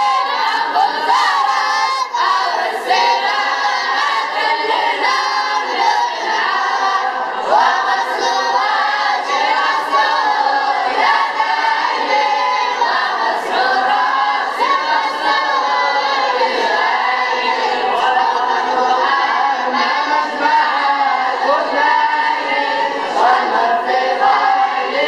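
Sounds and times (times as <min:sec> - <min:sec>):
boys chanting in unison: 0:00.0 - 0:25.0.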